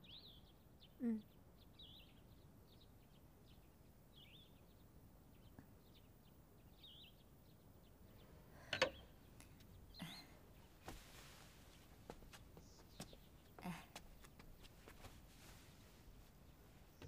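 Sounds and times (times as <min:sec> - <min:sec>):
birds chirping: 0:00.0 - 0:15.2.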